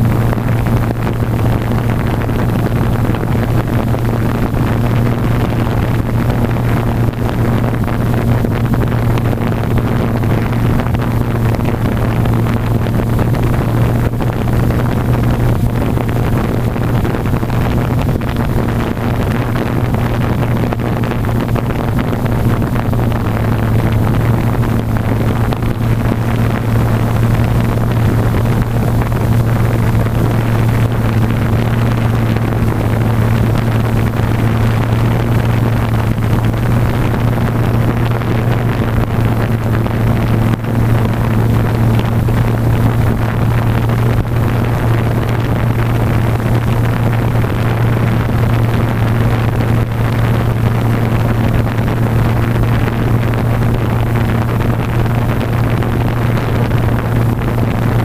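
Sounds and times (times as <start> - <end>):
drone motors humming: 0.0 - 52.4
propeller air rushing on microphone: 0.0 - 58.0.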